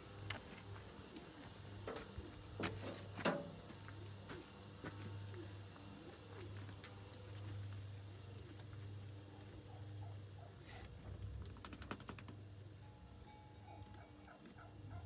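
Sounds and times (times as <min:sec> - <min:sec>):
pigeons cooing: 0:00.0 - 0:12.7, 0:14.0 - 0:15.0.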